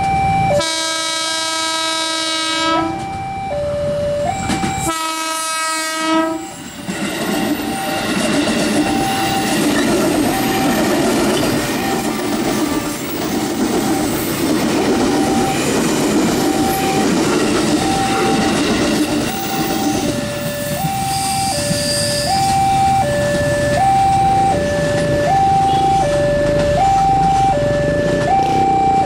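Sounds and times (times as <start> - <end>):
level crossing alarm beeping: 0.0 - 29.0
electric train rumbling past: 0.1 - 29.0.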